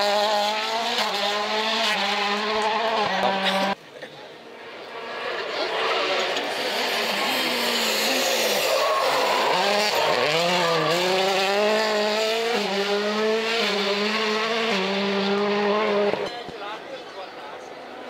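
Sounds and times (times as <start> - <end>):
car engine revving hard: 0.0 - 3.8, 5.5 - 16.3.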